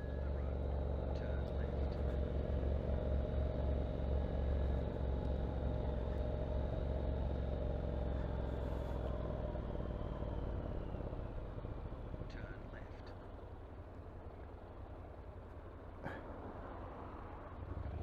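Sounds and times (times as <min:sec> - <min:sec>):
motorcycle engine drone: 0:00.0 - 0:15.6
road noise: 0:00.0 - 0:18.0.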